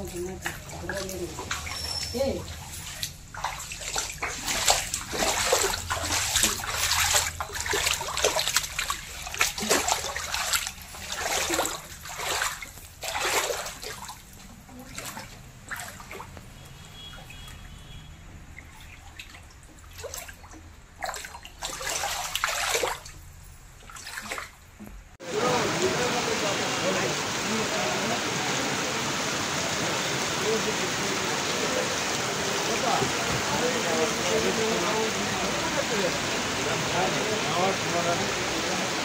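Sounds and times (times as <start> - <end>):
floodwater splashing and sloshing: 0.0 - 39.0.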